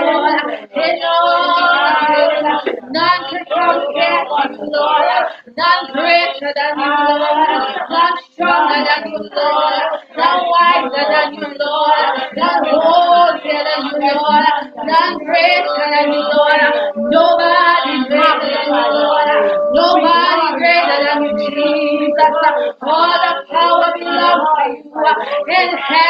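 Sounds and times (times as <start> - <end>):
women singing gospel song: 0.0 - 26.0.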